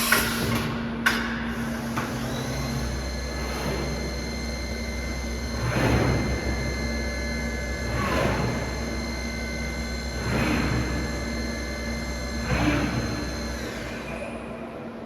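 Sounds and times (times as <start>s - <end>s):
low machine hum: 0.0s - 15.0s
machine high whines: 1.5s - 15.0s.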